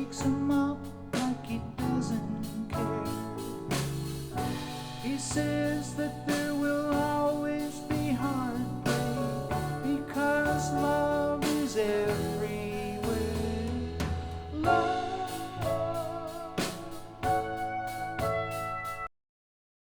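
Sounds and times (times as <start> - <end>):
person singing: 0.0 - 3.7, 4.4 - 18.2
folk-rock song over loudspeakers: 0.0 - 19.1
drum beat: 2.8 - 19.0.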